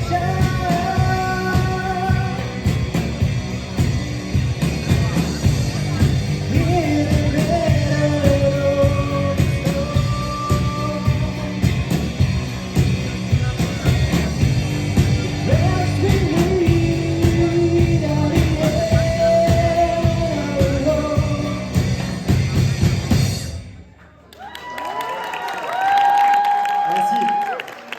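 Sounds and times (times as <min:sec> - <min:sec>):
bass guitar: 0:00.0 - 0:24.0
drums: 0:00.0 - 0:24.3.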